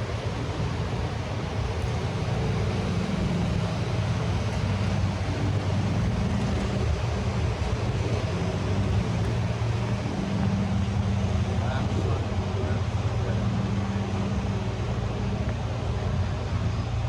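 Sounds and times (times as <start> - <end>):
low mechanical hum: 0.0 - 17.0
traffic noise: 0.0 - 17.0.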